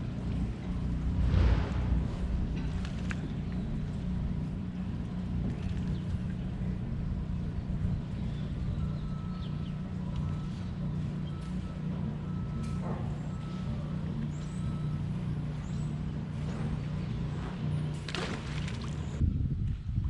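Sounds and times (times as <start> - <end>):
outboard motor running: 0.0 - 19.2.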